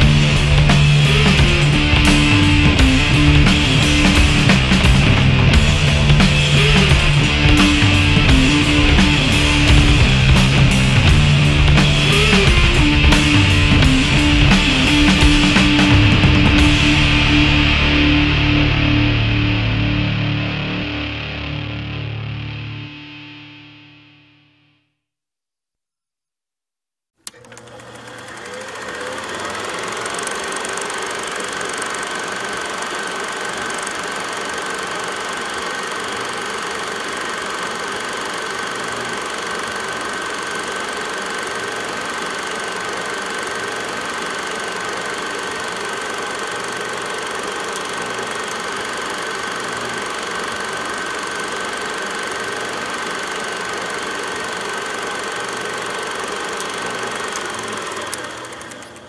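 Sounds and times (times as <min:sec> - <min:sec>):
film projector clatter: 0:00.0 - 0:17.5, 0:27.2 - 0:59.0
projector whine: 0:00.0 - 0:24.8, 0:27.2 - 0:59.0.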